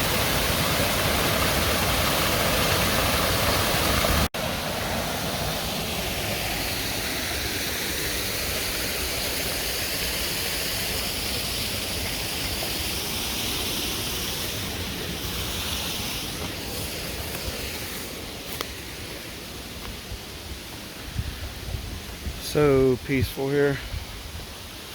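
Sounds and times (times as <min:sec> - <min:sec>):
water rushing over a dam: 0:00.0 - 0:24.9.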